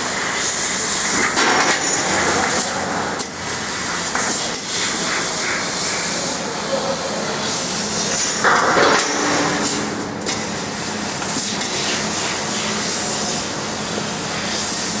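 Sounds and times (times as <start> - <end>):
laser cutter hissing: 0.0 - 15.0.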